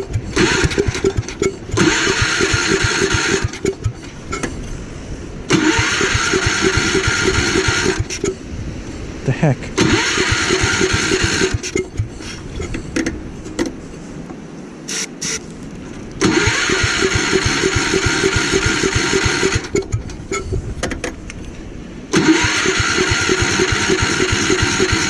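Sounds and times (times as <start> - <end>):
engine cranking: 0.0 - 4.8, 5.5 - 8.5, 9.8 - 13.8, 16.2 - 21.5, 22.1 - 25.0.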